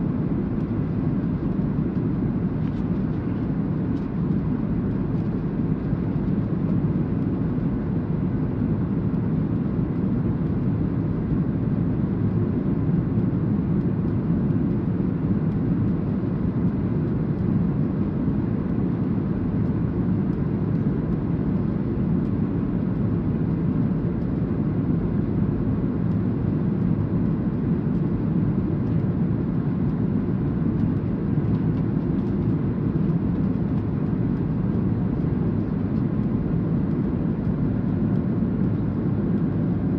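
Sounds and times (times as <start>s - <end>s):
airliner low rumble: 0.0s - 39.9s.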